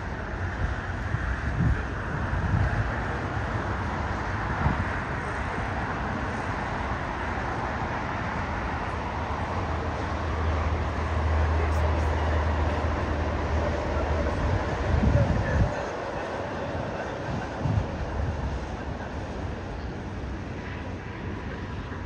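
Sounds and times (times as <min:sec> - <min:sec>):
distant jet engines roaring: 0:00.0 - 0:22.0
road traffic: 0:00.0 - 0:22.0.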